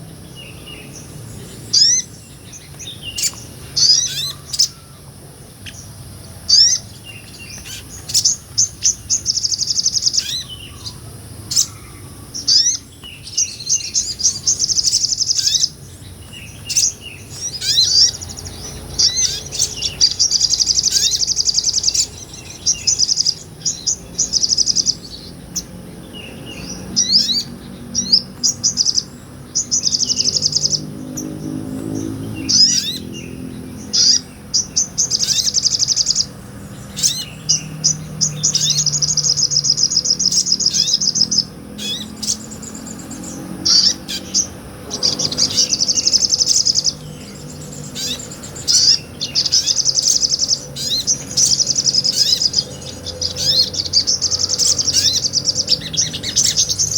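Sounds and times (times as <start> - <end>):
bird chirps: 0.0 - 56.9
bird singing rattling trills: 0.0 - 56.9.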